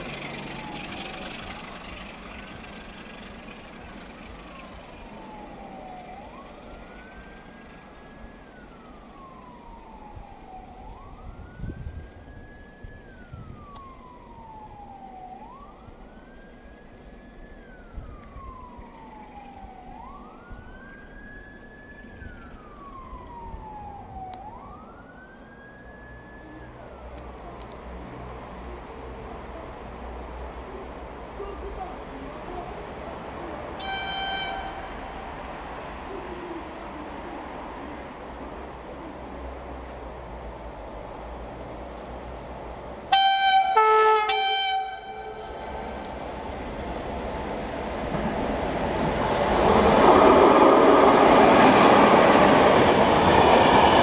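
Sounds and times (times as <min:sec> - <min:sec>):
siren wailing: 0:00.0 - 0:03.6, 0:04.2 - 0:27.7, 0:32.9 - 0:39.4, 0:43.0 - 0:54.0.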